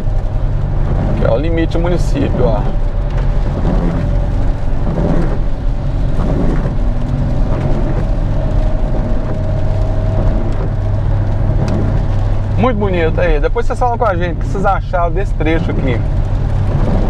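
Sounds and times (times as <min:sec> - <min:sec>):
car engine hum: 0:00.0 - 0:17.0
tyres hissing on wet road: 0:00.0 - 0:17.0.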